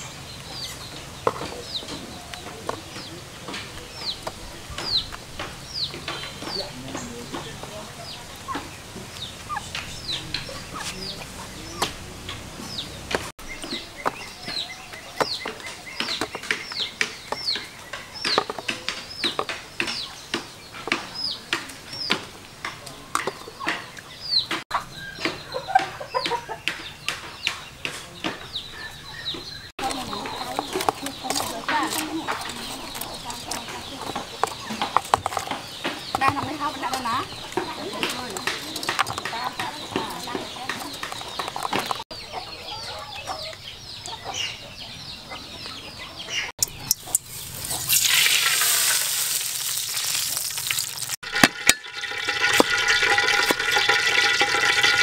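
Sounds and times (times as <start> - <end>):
animal clucking calls: 0.0 - 47.9
chicks peeping: 0.0 - 48.7.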